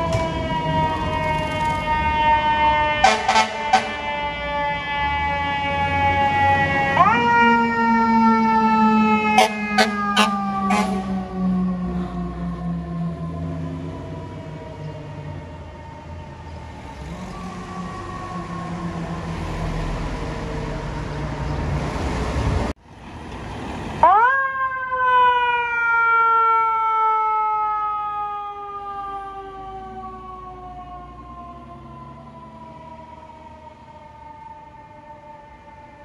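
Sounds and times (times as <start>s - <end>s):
traffic: 0.0s - 36.0s.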